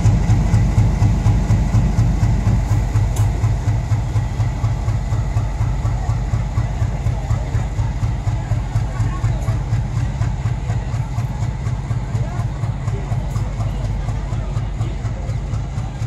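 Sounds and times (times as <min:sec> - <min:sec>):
diesel locomotive engine throbbing: 0:00.0 - 0:16.0
train coaches rolling over rails: 0:00.0 - 0:16.0.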